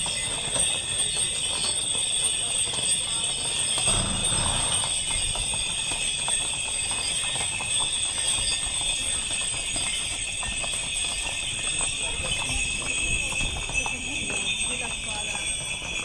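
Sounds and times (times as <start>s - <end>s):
hooves clip-clopping on asphalt: 0.0s - 16.0s.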